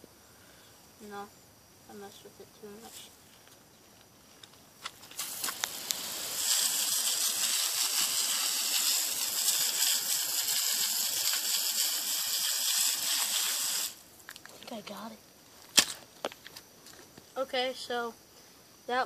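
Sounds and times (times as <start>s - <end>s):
loud steady hiss: 0.0s - 19.0s.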